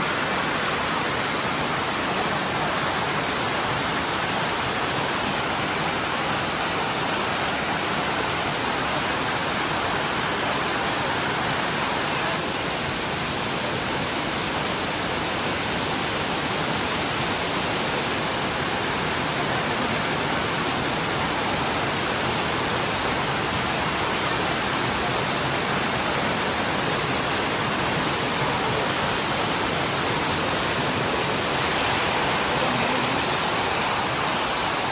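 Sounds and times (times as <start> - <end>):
waterfall roar: 0.0 - 34.9.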